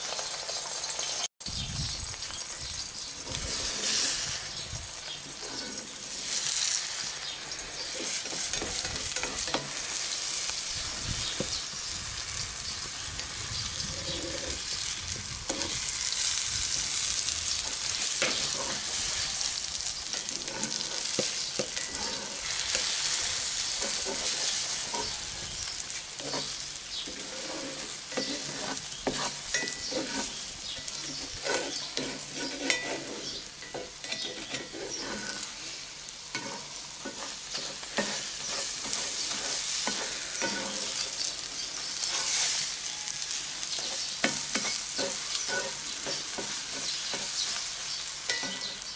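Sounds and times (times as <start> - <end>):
eggs sizzling in oil: 0.0 - 48.9
spatula scraping and tapping pan: 5.1 - 10.6, 11.2 - 11.6, 12.8 - 48.9.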